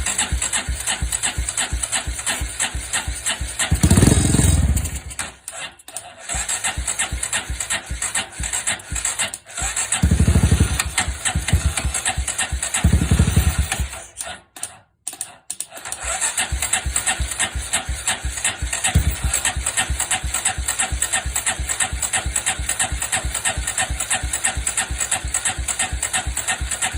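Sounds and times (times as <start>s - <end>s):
motorcycle engine idling and revving: 0.0s - 14.3s, 15.8s - 26.9s.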